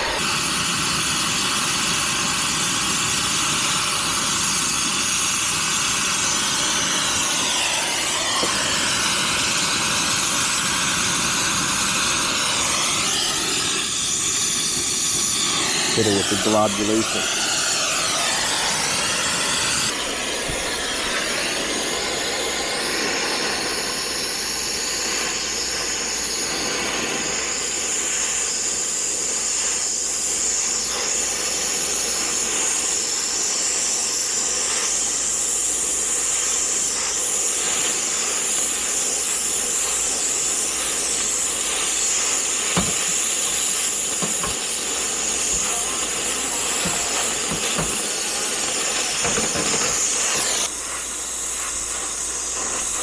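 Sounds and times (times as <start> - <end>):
brazing torch hissing: 0.0 - 53.0.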